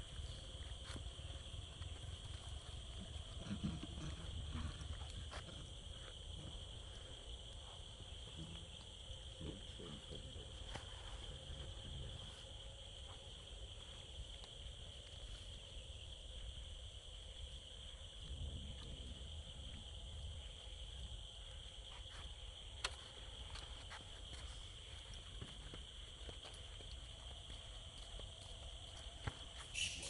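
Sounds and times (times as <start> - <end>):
faint ticks and rustles: 0.0 - 30.0
insects droning: 0.0 - 30.0.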